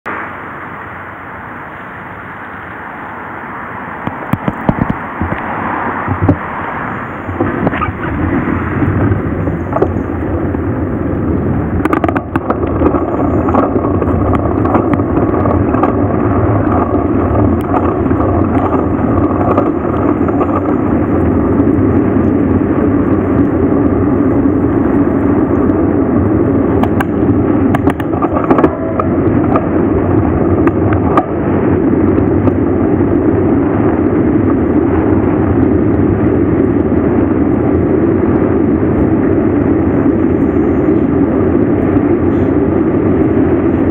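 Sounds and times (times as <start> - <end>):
bike road noise: 0.0 - 43.9
rushing wind: 0.0 - 43.9.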